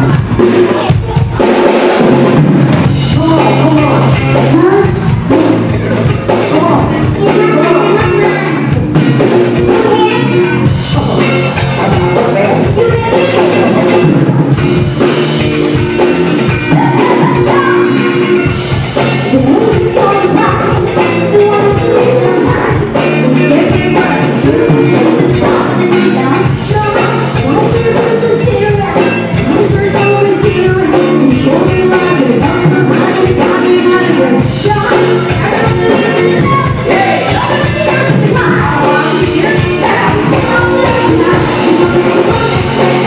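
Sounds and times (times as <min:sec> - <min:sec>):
live pop-rock band with vocals: 0:00.0 - 0:43.0.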